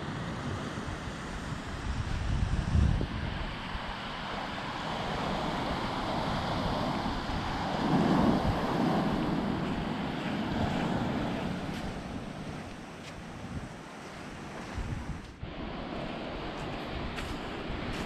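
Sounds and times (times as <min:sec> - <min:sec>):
small waves washing onto shore: 0:00.0 - 0:18.0
wind buffeting microphone: 0:00.0 - 0:18.0.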